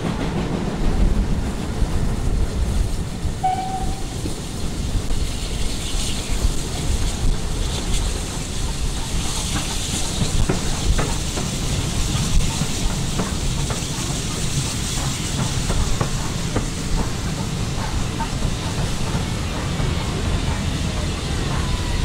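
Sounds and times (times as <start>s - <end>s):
steam hissing: 0.0s - 22.0s
train rumbling: 0.0s - 22.0s
wheels clicking over rail joints: 3.3s - 22.0s.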